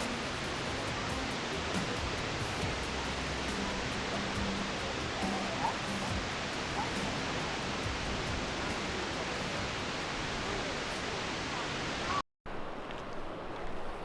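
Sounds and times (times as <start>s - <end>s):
waterfall rushing: 0.0s - 12.7s
quiet outdoor ambience: 0.0s - 14.0s.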